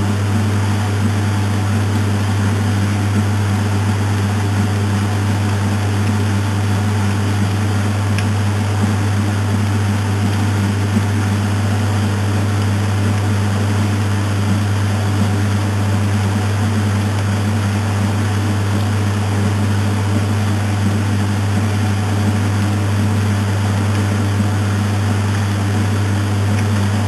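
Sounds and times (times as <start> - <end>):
washing machine motor hum: 0.0 - 27.0.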